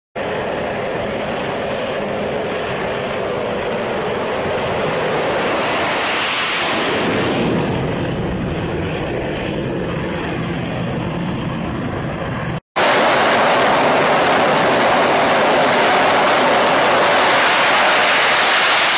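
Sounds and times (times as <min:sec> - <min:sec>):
jet engine roaring on take-off: 0:00.2 - 0:18.9.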